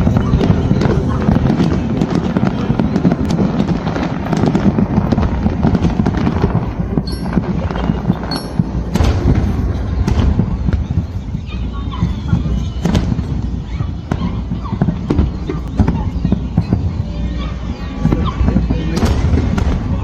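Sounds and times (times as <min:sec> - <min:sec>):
fireworks bangs and crackles: 0:00.0 - 0:20.0
loud single firework bangs: 0:00.0 - 0:20.0.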